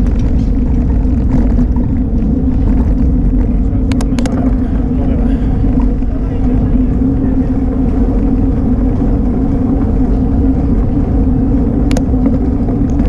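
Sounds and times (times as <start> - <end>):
road rumble of bicycle tyres: 0.0 - 13.0
wind buffeting: 0.0 - 13.0.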